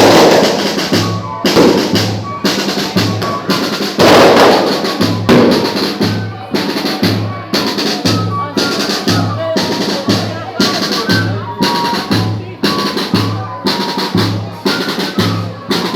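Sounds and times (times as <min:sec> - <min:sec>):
bass drum and snare rhythm: 0:00.0 - 0:15.9.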